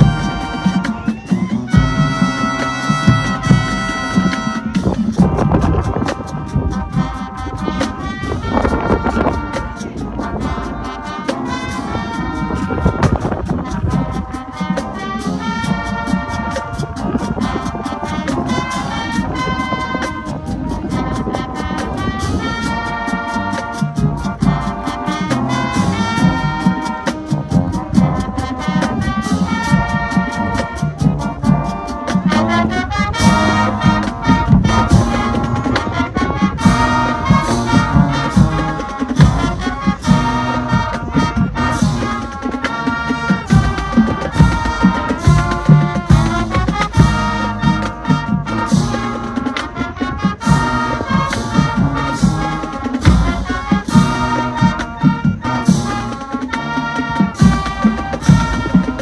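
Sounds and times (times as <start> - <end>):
brass section playing chords: 0.0 - 59.0.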